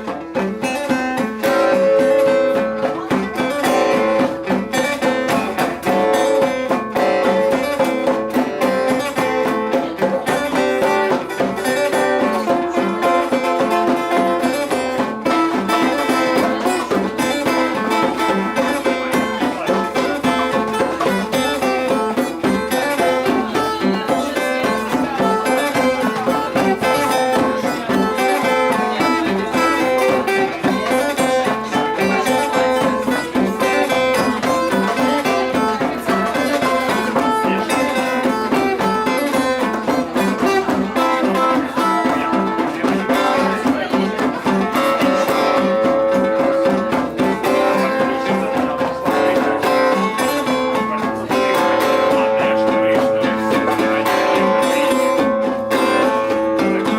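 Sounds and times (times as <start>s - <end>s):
plucked and strummed guitar: 0.0s - 56.9s.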